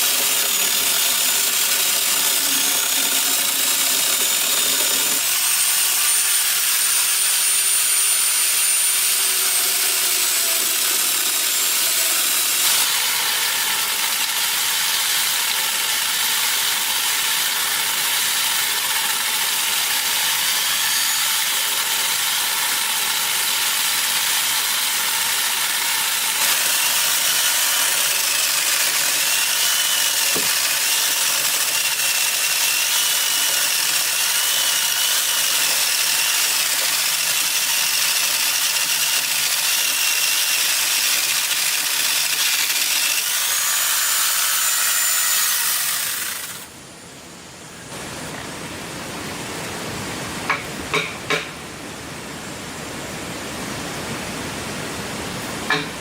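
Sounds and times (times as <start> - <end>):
woodworking power tool running: 0.0 - 46.7.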